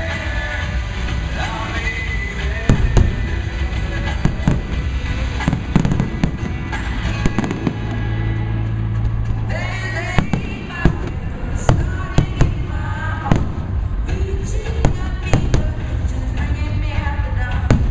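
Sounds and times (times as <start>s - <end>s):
music playing: 0.0s - 17.9s
fireworks bangs and crackles: 0.4s - 8.4s, 9.1s - 16.6s, 17.5s - 17.9s.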